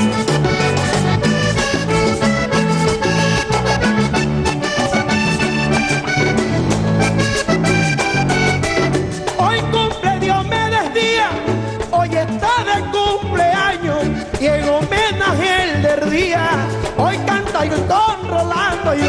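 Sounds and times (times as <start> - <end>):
accordion melody: 0.0 - 19.0
bass line: 0.0 - 19.0
steady percussion: 0.0 - 19.0.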